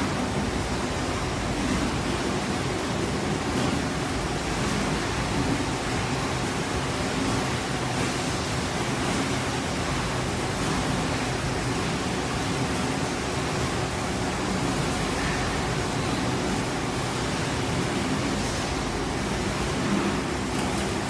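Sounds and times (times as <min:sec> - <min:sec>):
production line machinery hum: 0:00.0 - 0:21.0.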